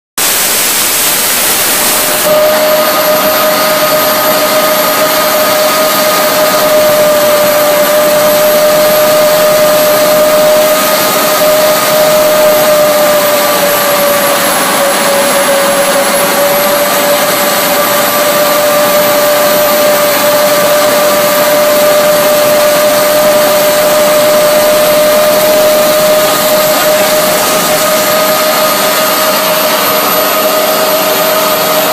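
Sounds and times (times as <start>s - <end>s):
jet engine roaring with whine: 0.2s - 31.9s.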